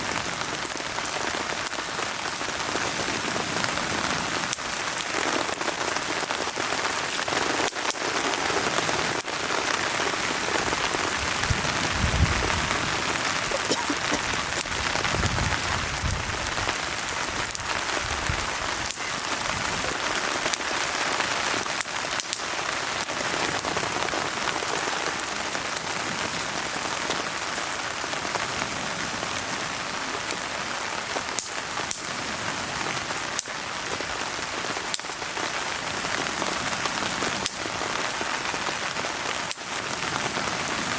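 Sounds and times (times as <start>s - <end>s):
firewood crackling and popping: 0.0s - 40.9s
rain falling: 0.0s - 40.9s.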